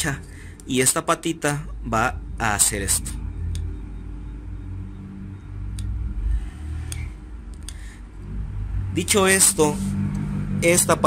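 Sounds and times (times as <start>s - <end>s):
faint hum: 0.0s - 10.8s
low background rumble: 0.0s - 11.0s.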